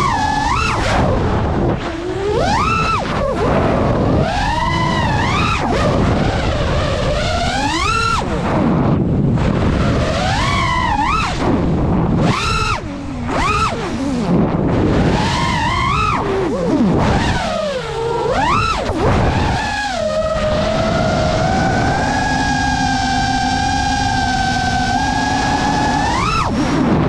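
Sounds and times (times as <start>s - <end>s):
drone motors whining: 0.0s - 27.0s
rushing wind: 0.0s - 27.0s.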